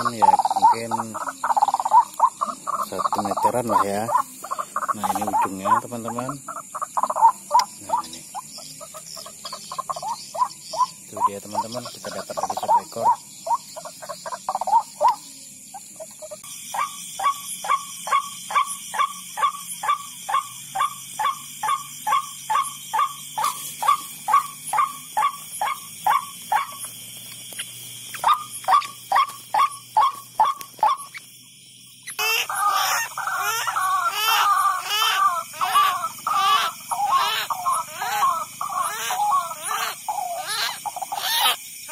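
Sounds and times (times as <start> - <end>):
waterhen calls: 0.0 - 15.2, 16.0 - 26.8, 28.1 - 31.2, 32.0 - 41.9
jumbled chorus of bird calls: 0.0 - 41.9.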